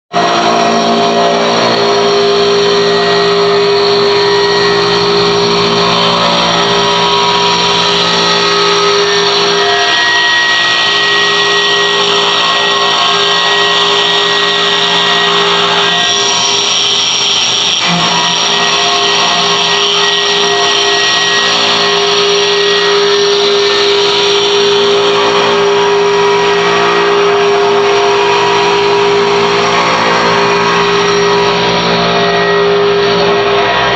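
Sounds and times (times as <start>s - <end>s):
engraving machine motor whine: 0.2s - 33.9s.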